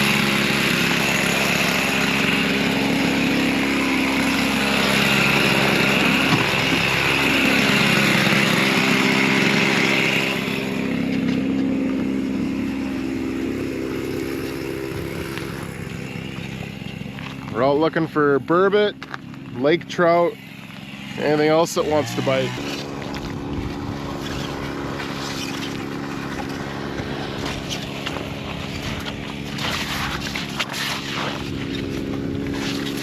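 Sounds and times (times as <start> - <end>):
small vehicle engine running: 0.0 - 33.0.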